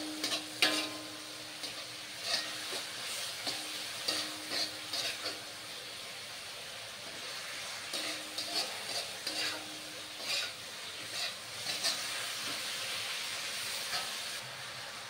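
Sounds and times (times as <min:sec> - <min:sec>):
metal spatula scraping a wok: 0:00.0 - 0:14.8
meat sizzling in a wok: 0:00.0 - 0:15.0.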